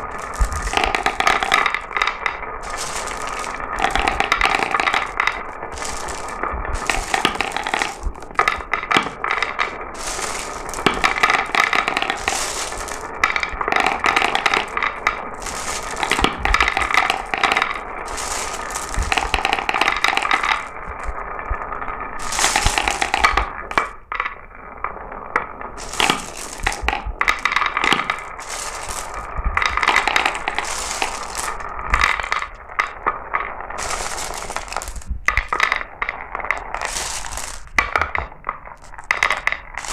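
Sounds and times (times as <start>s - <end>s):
marbles rolling and clattering: 0.0s - 39.9s.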